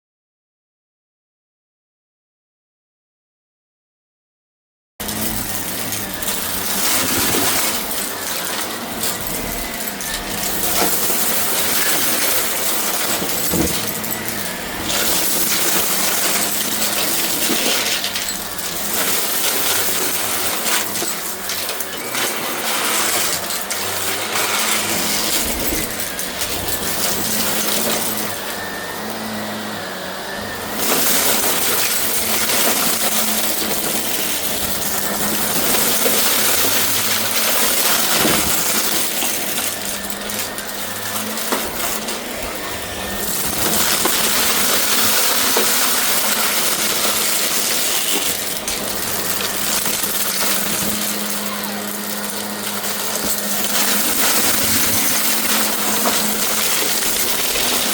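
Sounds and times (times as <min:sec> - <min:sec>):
debris clicking and rattling: 0:05.0 - 0:29.8, 0:30.4 - 0:57.9
vacuum cleaner motor running: 0:05.0 - 0:57.9.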